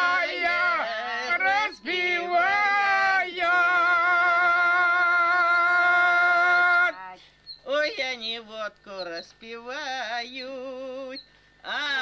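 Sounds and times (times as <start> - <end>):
elderly woman and man singing: 0.0 - 7.0, 7.6 - 12.0.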